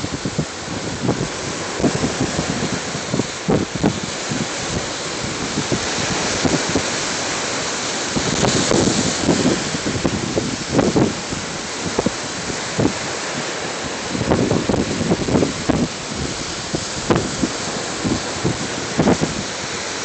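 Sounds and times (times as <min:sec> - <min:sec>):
small waves breaking: 0:00.0 - 0:20.0
wind buffeting microphone: 0:00.0 - 0:20.0.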